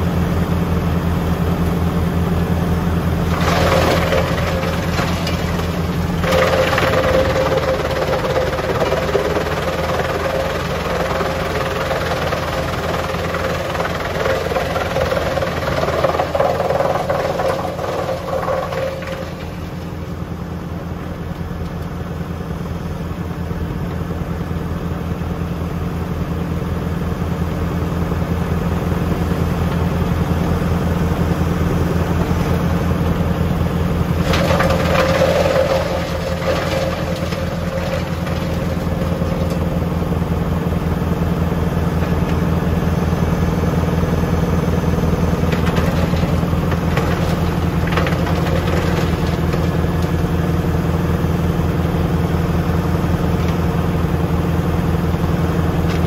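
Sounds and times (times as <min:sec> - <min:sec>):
tractor engine running: 0:00.0 - 0:56.0
wood chipper rushing noise: 0:00.1 - 0:24.1, 0:27.0 - 0:56.0.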